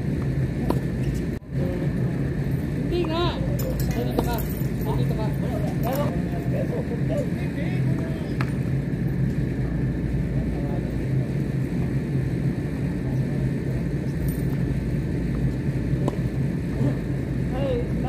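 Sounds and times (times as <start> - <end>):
low rumble with hum: 0.0 - 18.0.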